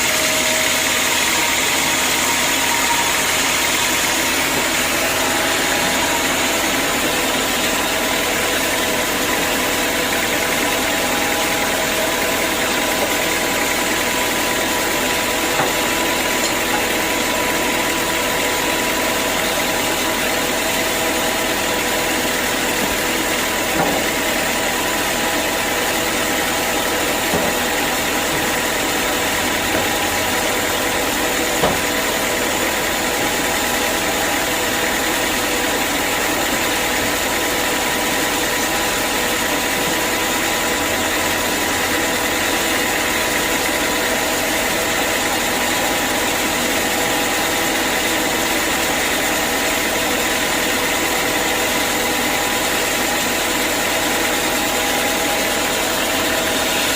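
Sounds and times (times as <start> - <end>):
sawmill machinery humming: 0.0 - 56.9.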